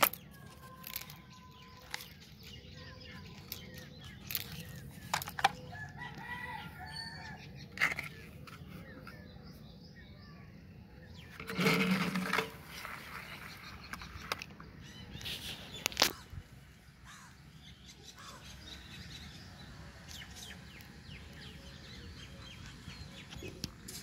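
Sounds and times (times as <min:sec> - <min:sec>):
birds chirping: 0:00.0 - 0:24.0
low outdoor background noise: 0:00.0 - 0:24.0.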